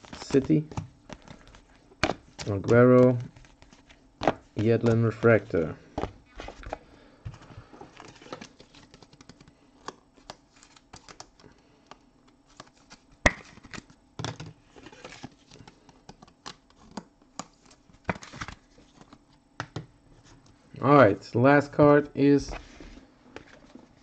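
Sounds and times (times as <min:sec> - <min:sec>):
cards clicking and rustling: 0:00.0 - 0:19.9.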